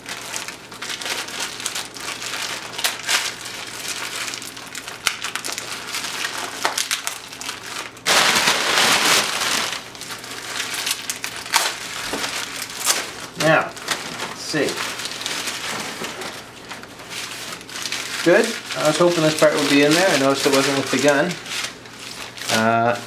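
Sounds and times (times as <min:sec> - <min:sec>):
paper crinkling and rustling: 0:00.0 - 0:23.0
paper crumpling: 0:00.0 - 0:23.0.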